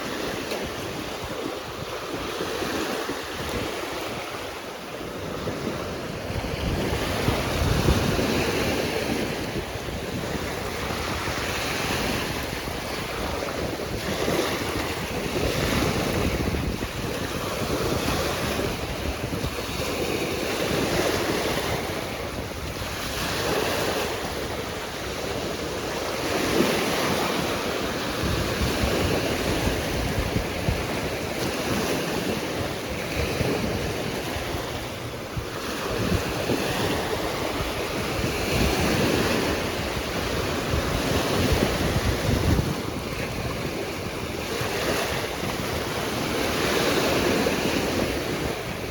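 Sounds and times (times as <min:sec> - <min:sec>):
ocean surf breaking: 0:00.0 - 0:48.9
wind rumbling on microphone: 0:00.0 - 0:48.9.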